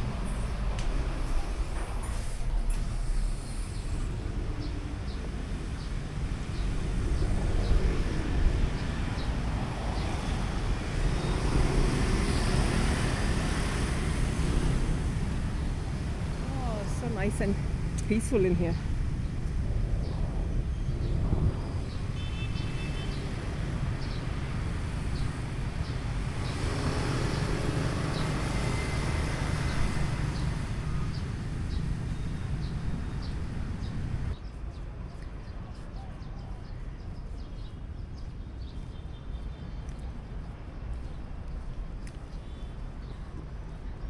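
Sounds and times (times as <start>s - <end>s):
city traffic hum: 0.0s - 44.0s.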